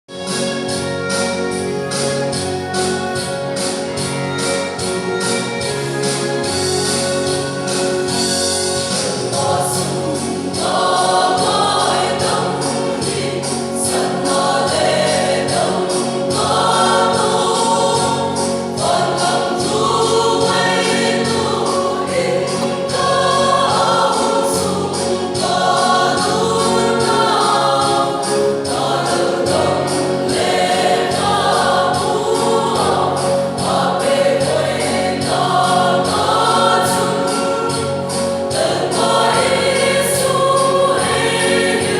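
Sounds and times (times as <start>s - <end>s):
instrumental backing with beat: 0.1s - 41.9s
choir singing gospel: 0.2s - 41.9s.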